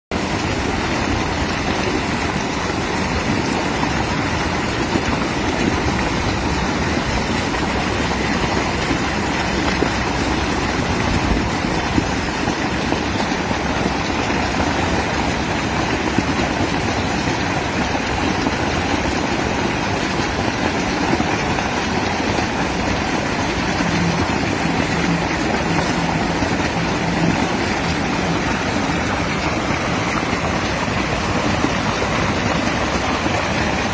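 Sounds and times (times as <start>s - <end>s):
mountain river rushing: 0.1s - 33.9s.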